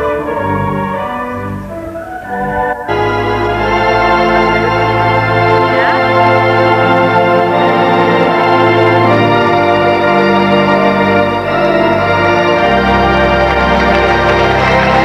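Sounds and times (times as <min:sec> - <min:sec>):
pipe organ playing chords: 0:00.0 - 0:15.0.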